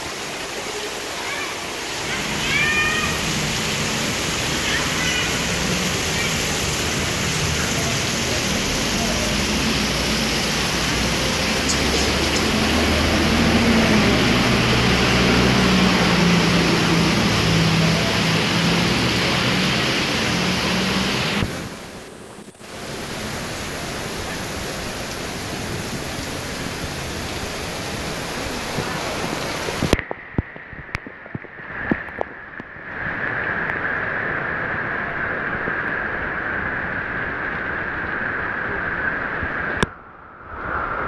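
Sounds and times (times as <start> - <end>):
torrential rain pouring: 0.0 - 41.0.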